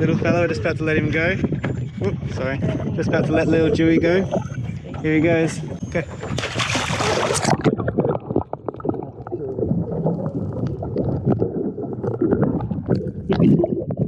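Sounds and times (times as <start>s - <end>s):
muffled underwater sloshing: 0.0s - 14.0s.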